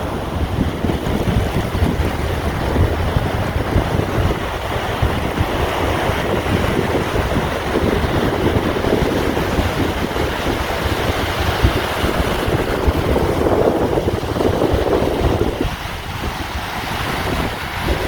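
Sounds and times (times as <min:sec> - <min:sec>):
sea waves washing in: 0:00.0 - 0:18.0
wind buffeting the microphone: 0:00.0 - 0:18.0.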